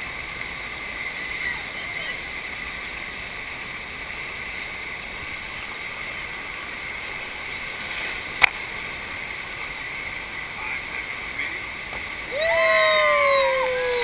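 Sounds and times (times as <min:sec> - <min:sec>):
rushing pumped water: 0:00.0 - 0:14.0.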